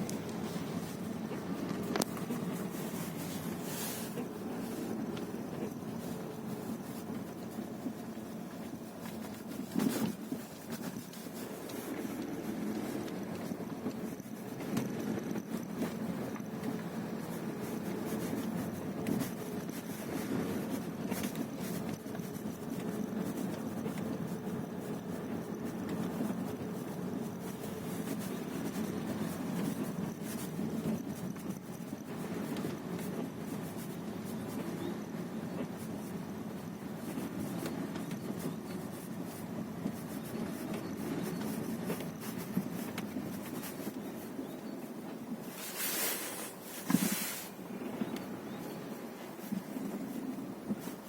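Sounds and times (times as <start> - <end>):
car engine running: 0.0 - 45.6.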